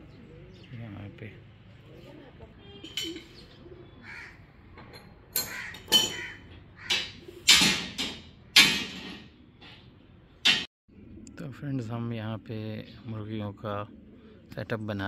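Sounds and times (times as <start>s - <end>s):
birds harsh calls: 0.0s - 11.3s, 12.9s - 14.7s.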